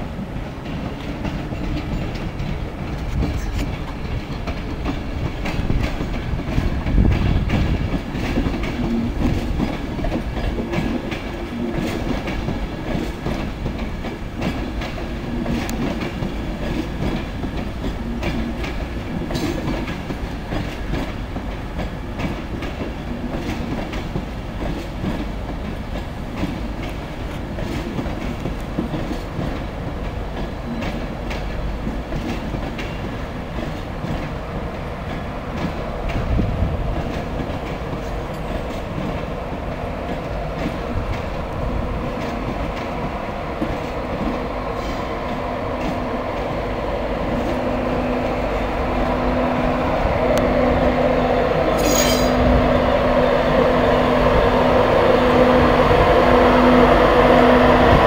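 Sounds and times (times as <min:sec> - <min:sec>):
electric locomotive hum: 0:00.0 - 0:58.0
train wheels clacking over rail joints: 0:00.1 - 0:50.9, 0:51.7 - 0:52.7.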